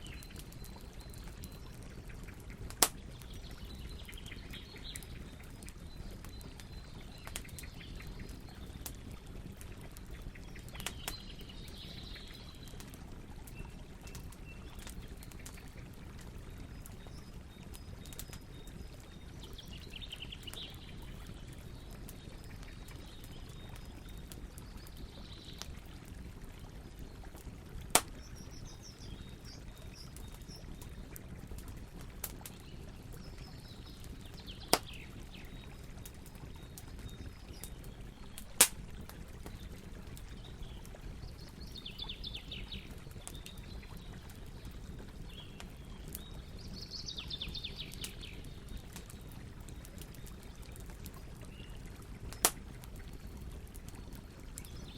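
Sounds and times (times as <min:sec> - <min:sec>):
campfire crackling and popping: 0:00.0 - 0:54.9
faint birds chirping: 0:00.0 - 0:54.9.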